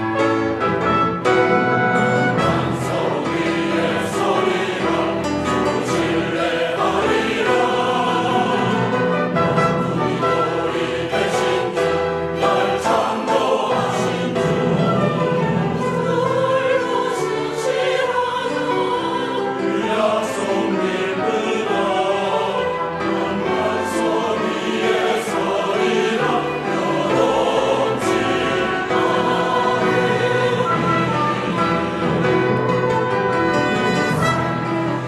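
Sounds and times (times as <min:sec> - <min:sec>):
church choir singing: 0:00.0 - 0:35.0
instrumental accompaniment: 0:00.0 - 0:35.0.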